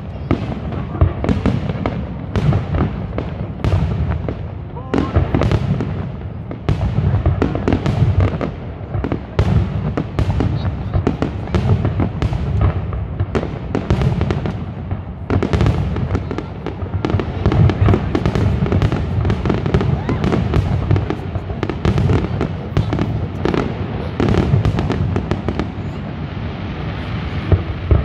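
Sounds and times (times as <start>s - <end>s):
rumble of booms and crackle: 0.0s - 28.0s.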